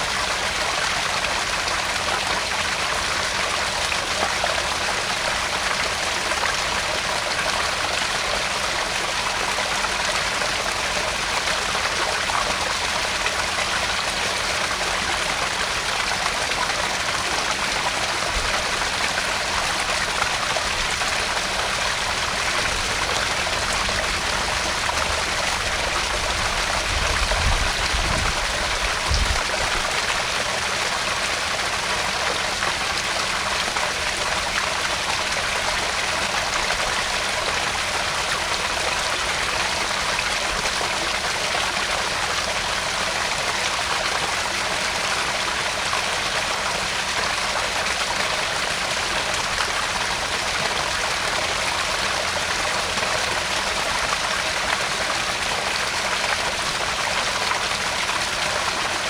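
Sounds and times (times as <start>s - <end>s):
waterfall splashing into pond: 0.0s - 59.0s.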